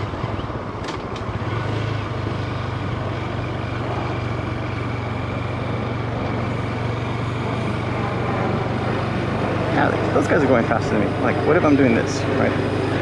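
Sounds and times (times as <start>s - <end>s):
motorcycle engine running: 0.0s - 13.0s
wind and road noise hiss: 0.0s - 13.0s.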